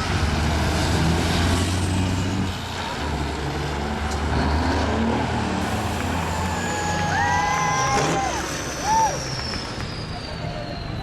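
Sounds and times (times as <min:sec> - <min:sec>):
diesel truck engines at full throttle: 0:00.0 - 0:11.0.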